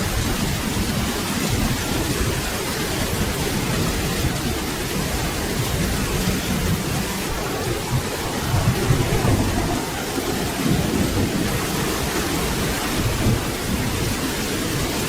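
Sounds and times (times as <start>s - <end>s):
low thunder rumble: 0.0s - 15.0s
rain falling: 0.0s - 15.0s.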